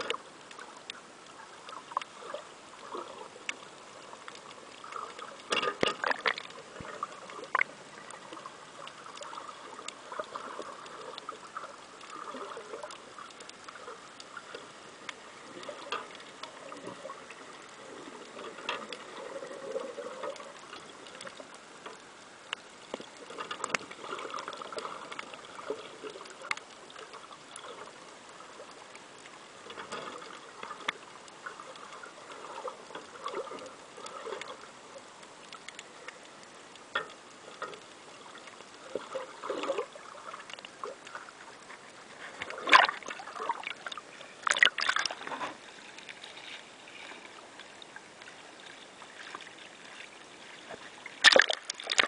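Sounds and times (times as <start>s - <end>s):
muffled underwater wash: 0.0s - 52.0s
underwater clicks and crackles: 0.0s - 52.0s.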